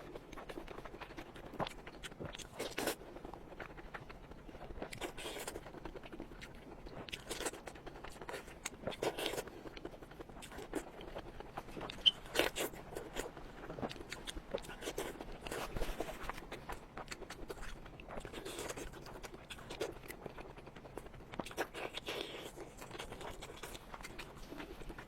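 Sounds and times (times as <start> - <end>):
crunching and wet chewing: 0.0 - 25.0.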